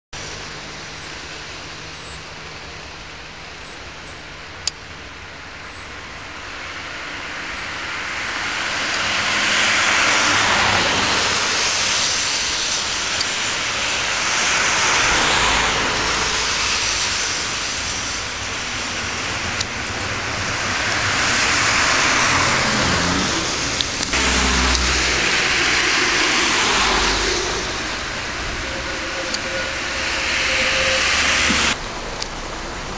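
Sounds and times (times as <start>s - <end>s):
tram wheels rolling on rails: 0.2s - 32.9s.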